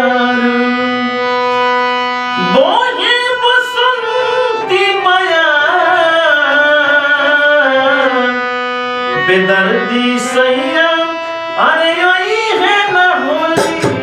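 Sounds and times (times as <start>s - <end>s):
man singing ornamented melody: 0.0s - 1.7s, 2.3s - 14.0s
held instrumental tones: 0.0s - 14.0s.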